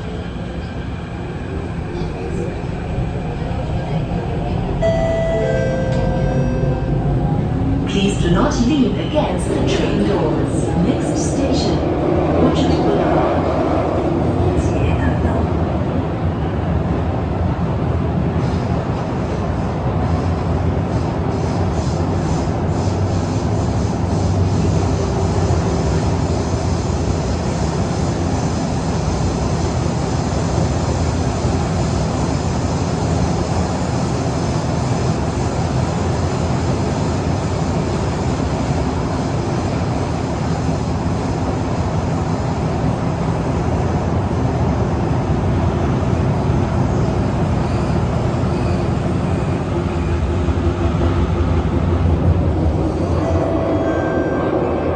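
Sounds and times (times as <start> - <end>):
metro train rumbling in tunnel: 0.0 - 54.9.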